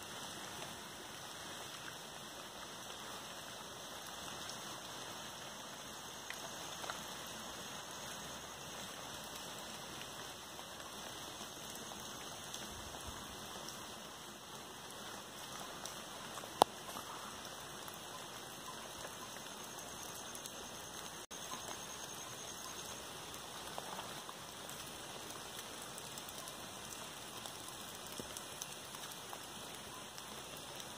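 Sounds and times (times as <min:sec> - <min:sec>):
rain falling steadily: 0:00.0 - 0:30.9.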